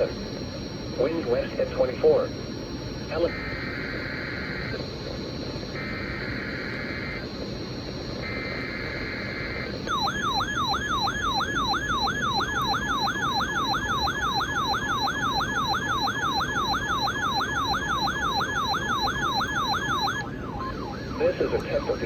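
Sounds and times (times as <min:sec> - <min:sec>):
buzzing digital header tones: 0:00.0 - 0:20.2
warbling siren tone: 0:00.0 - 0:22.0.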